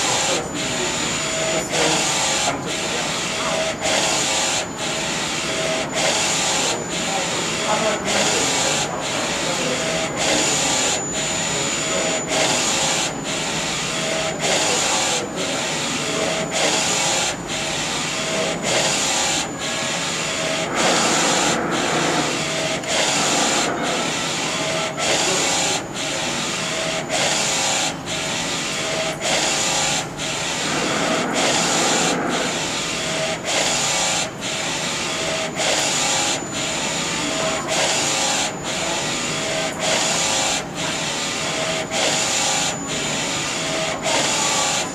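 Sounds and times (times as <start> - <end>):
printer carriage whirring: 0.0 - 44.9.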